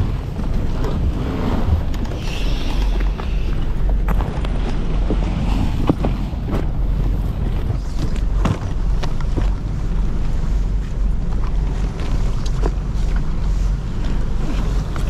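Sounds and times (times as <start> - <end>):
boat engine rumble: 0.0 - 15.0
wind on microphone: 0.0 - 15.0.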